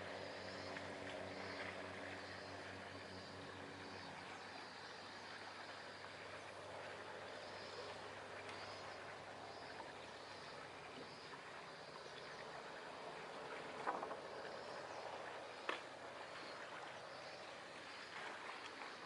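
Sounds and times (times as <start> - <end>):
small waves lapping: 0.0 - 19.0.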